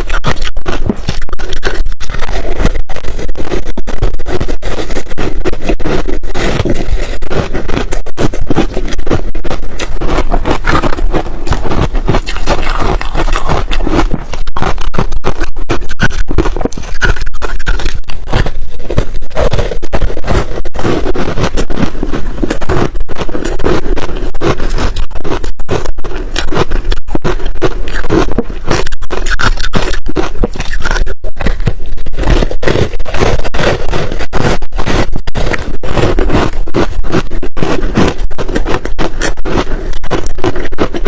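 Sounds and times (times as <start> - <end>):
ice being chewed: 0.0 - 41.0.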